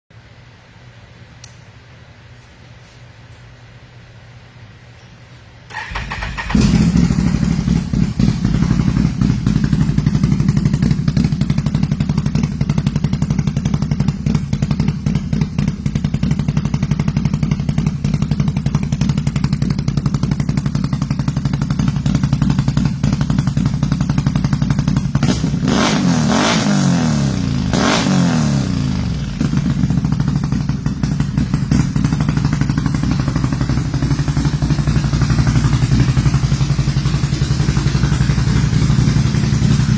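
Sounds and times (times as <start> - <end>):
atv engine idling and revving: 5.8 - 39.9.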